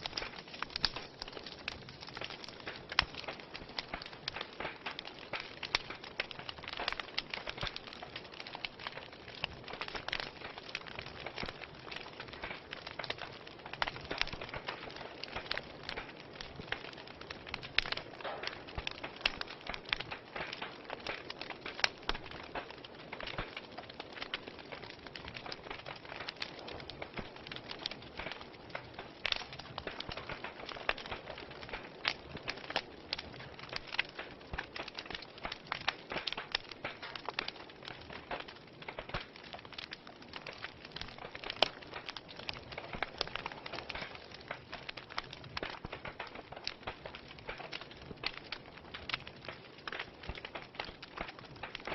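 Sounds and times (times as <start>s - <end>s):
sharp pops from fire: 0.0s - 51.9s
wood fire crackling: 0.0s - 51.9s.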